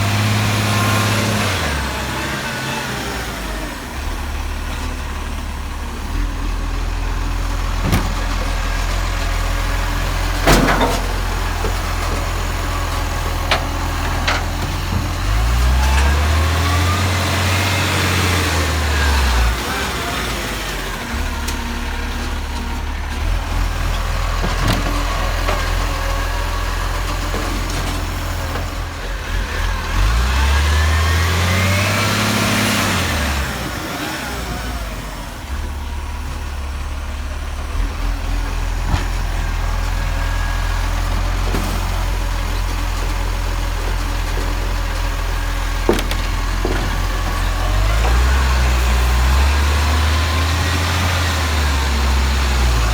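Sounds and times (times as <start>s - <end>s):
truck diesel engine revving: 0.0s - 52.9s.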